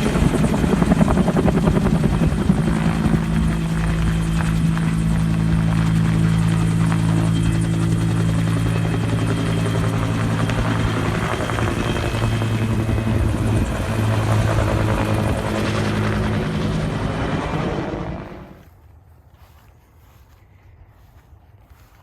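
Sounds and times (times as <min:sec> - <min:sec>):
helicopter turbine and rotor drone: 0:00.0 - 0:18.7.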